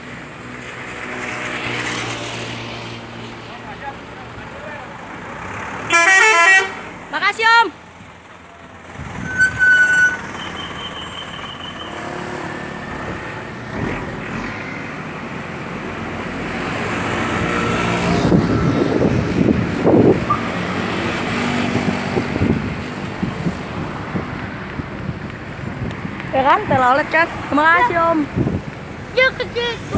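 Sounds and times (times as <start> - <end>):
road traffic: 0.0 - 29.9.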